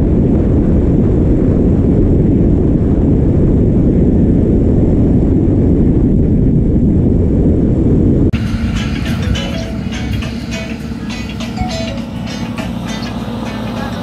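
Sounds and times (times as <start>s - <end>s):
wind rumbling over microphone: 0.0s - 14.0s.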